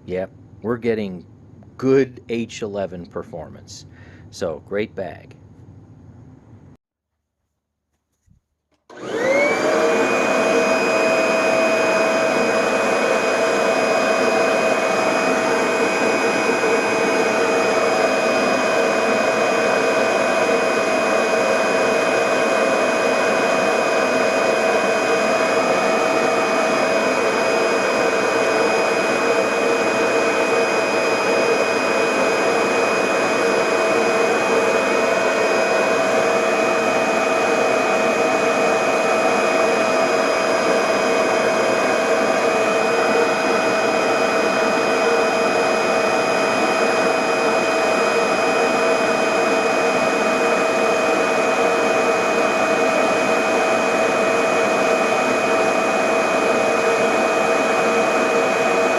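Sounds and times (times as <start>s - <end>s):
vacuum motor whining: 8.8s - 58.9s.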